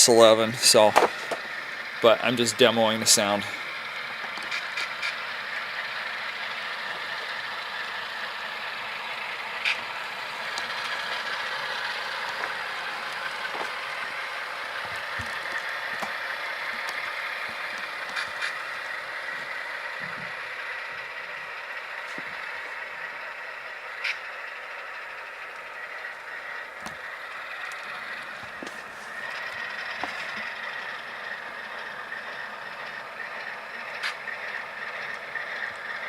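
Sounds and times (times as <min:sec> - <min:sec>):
diesel engine sound from small speaker: 0:00.0 - 0:36.0.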